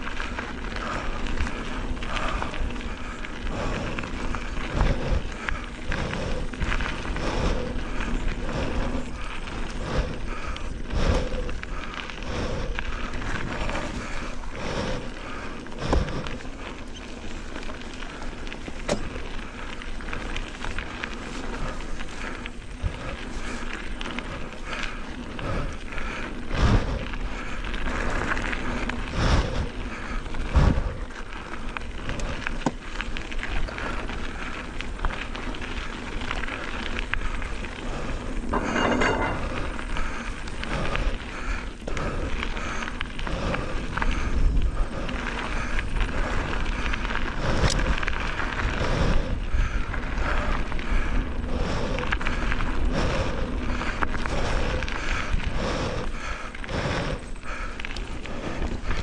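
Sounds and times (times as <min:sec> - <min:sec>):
bike rattling: 0:00.0 - 0:59.0
bike tyre and drivetrain noise: 0:00.0 - 0:59.0.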